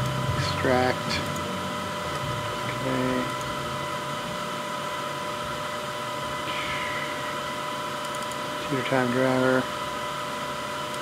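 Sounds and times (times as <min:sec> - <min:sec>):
constant whining tones: 0:00.0 - 0:11.0
machine humming: 0:00.0 - 0:11.0.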